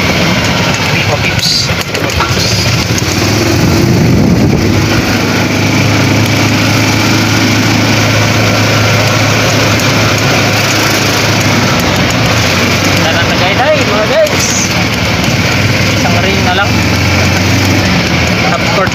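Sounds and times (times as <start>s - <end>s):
road and wind noise: 0.0s - 18.9s
small petrol engine running: 0.0s - 18.9s.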